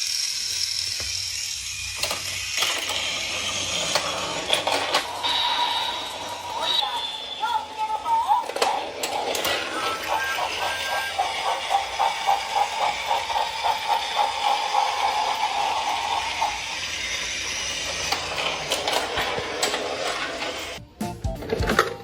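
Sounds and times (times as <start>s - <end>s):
toy train motor whirring: 0.0s - 20.8s
toy train clicking beat: 0.0s - 22.0s.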